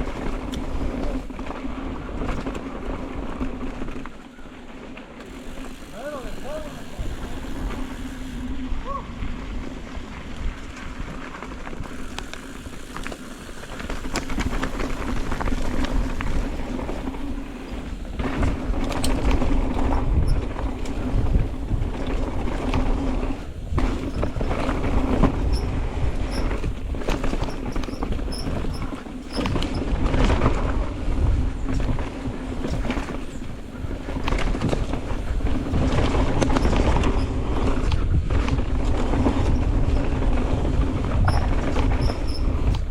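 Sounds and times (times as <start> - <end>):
bike knocking and rattling: 0.0 - 42.9
tyres running over dirt: 0.0 - 42.9
wind rumbling on microphone: 0.0 - 42.9.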